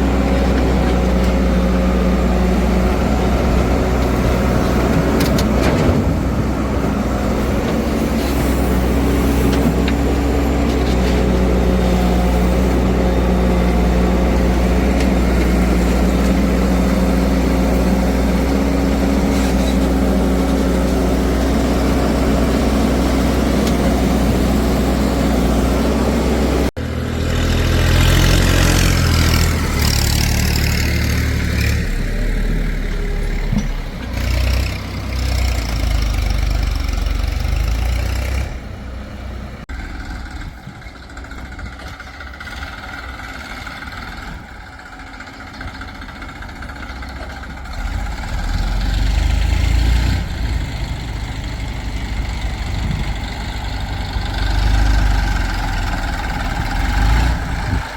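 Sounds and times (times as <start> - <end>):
heavy machinery diesel engines: 0.0 - 57.9.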